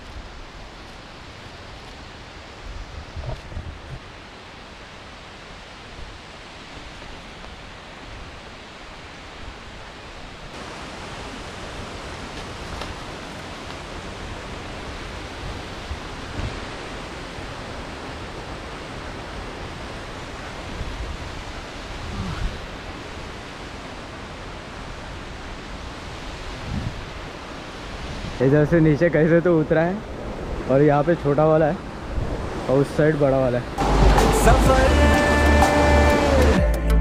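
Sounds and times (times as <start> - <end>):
waterfall rushing: 0.4 - 37.0.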